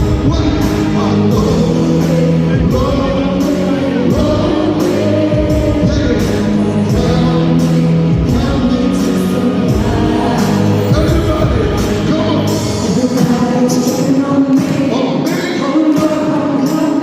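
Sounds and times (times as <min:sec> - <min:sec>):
loud live concert music: 0:00.0 - 0:17.0
person singing: 0:00.0 - 0:17.0.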